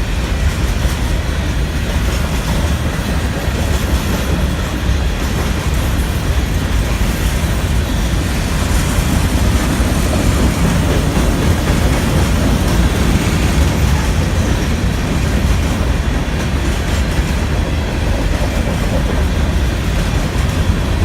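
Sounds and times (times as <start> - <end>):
train wheels rumbling on rails: 0.0 - 21.0
wheels clickety-clack: 0.0 - 21.0.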